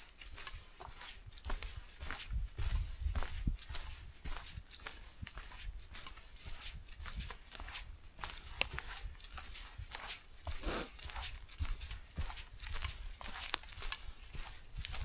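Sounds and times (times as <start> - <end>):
rustle underfoot: 0.1 - 15.0
footsteps on forest trail: 0.2 - 15.0.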